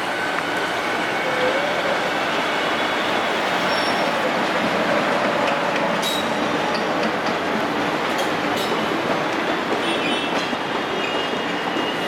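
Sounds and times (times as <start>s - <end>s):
train wheels on track: 0.0s - 12.0s.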